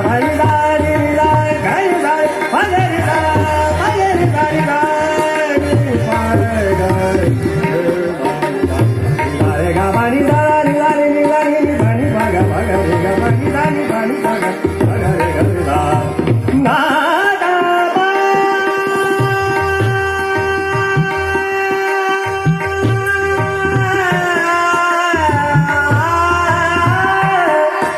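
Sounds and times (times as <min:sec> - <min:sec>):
harmonium: 0:00.0 - 0:27.9
man singing gliding melody: 0:00.0 - 0:27.9
tabla playing a beat: 0:00.0 - 0:27.9.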